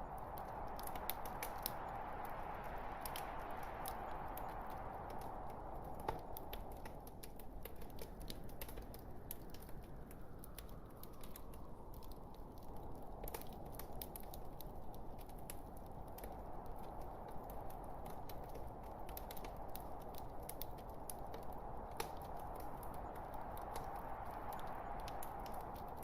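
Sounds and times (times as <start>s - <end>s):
logs crackling in fireplace: 0.0s - 26.0s.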